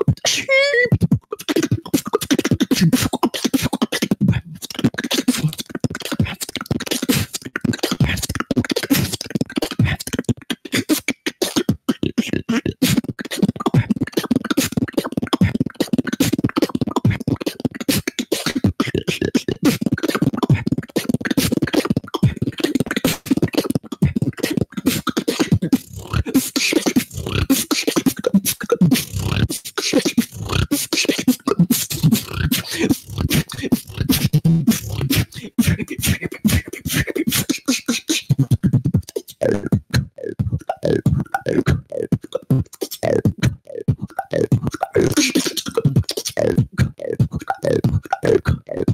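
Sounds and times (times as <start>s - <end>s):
beatboxing into a microphone: 0.0s - 48.9s.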